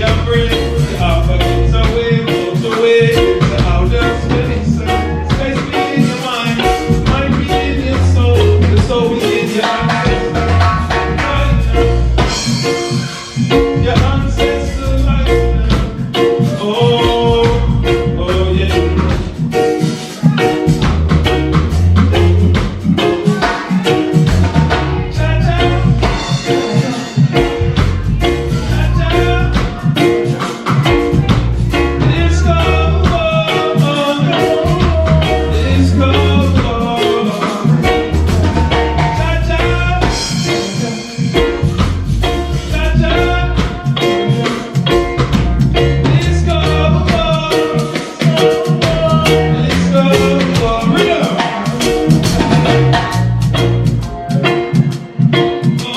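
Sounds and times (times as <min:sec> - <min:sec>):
drum kit steady beat: 0:00.0 - 0:55.9
guitar and keyboard chords: 0:00.0 - 0:55.9
heavy repeating bass line: 0:00.0 - 0:55.9.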